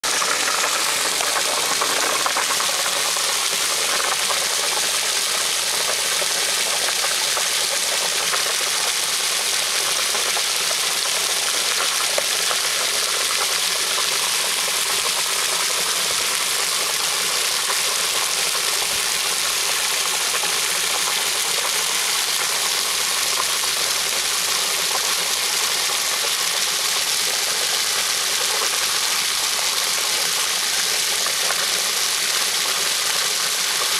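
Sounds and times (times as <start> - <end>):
water jet splashing into pool: 0.0 - 33.9.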